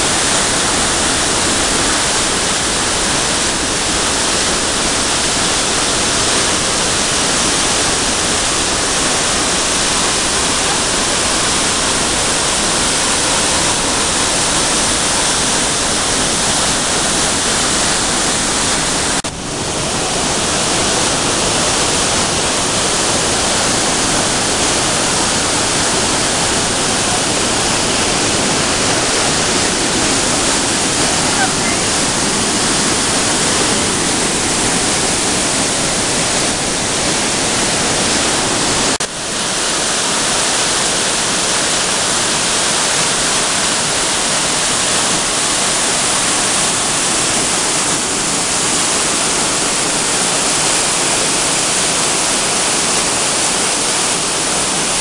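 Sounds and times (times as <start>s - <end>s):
water rushing through rock gorge: 0.0s - 55.0s.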